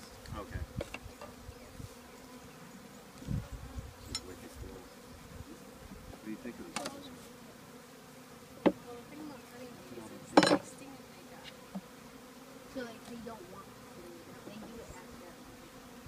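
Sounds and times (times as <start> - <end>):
honeybees humming: 0.0 - 16.0.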